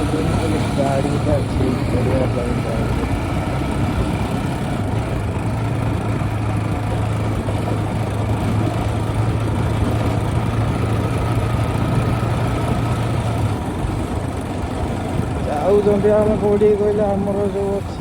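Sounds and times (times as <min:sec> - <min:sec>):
motorcycle engine humming: 0:00.0 - 0:18.0
road and wind noise: 0:00.0 - 0:18.0.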